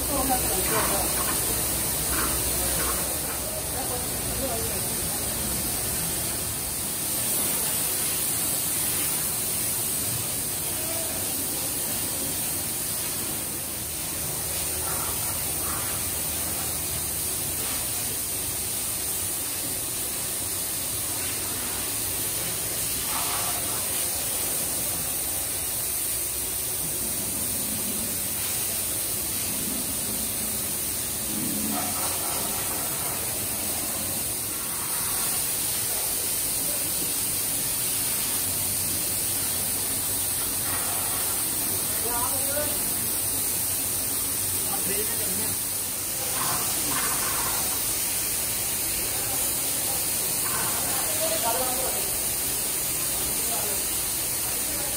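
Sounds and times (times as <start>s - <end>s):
spray gun hissing: 0.0s - 54.9s.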